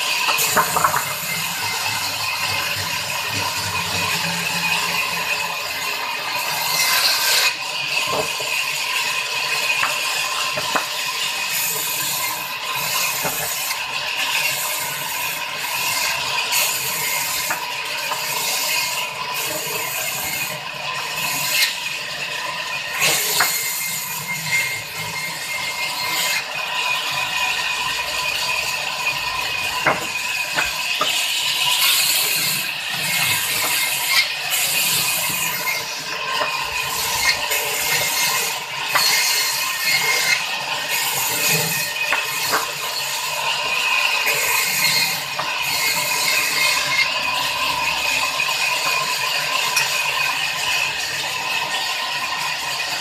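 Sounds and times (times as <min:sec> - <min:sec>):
band saw cutting timber: 0:00.0 - 0:53.0.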